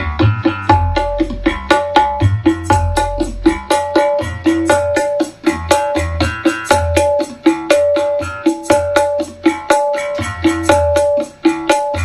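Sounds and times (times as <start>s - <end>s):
percussion-heavy music through speaker: 0.0s - 12.0s.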